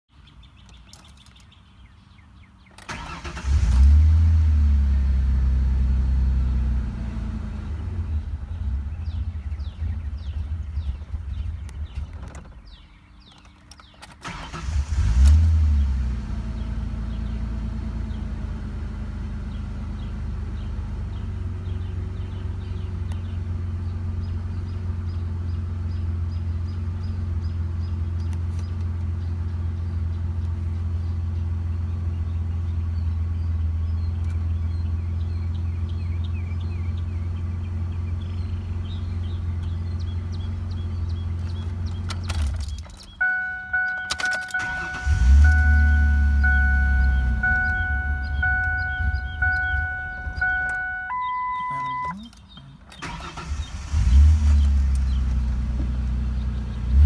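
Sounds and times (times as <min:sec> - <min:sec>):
car engine starting and idling: 0:01.4 - 0:57.0.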